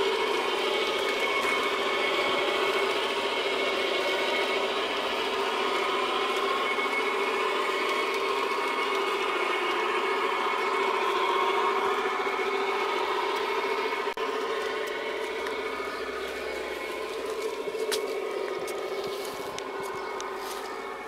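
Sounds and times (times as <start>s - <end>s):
model locomotive mechanical hum: 0.0s - 21.0s.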